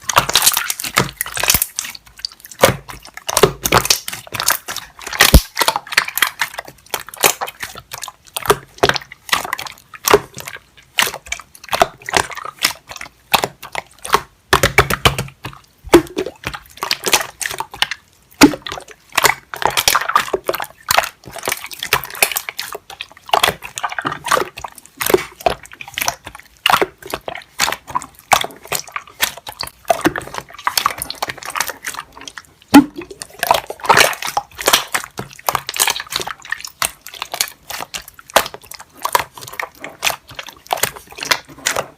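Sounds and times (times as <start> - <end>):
rapid irregular clicks and taps: 0.0 - 41.9.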